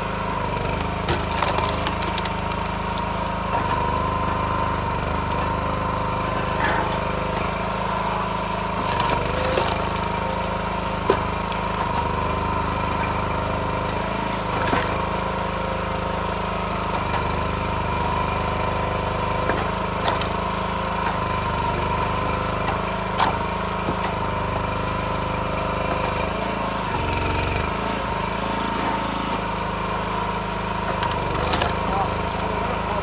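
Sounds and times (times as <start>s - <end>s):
log splitter engine running: 0.0s - 33.0s.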